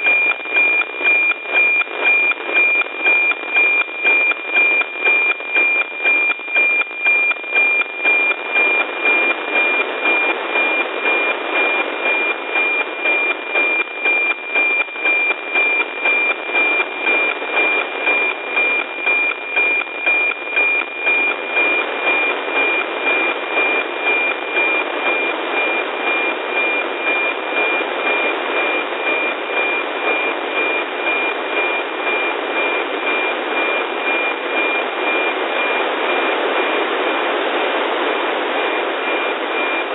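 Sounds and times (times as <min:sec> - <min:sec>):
steady satellite signal tone: 0:00.0 - 0:39.9
sync pulse ticking: 0:00.0 - 0:39.9.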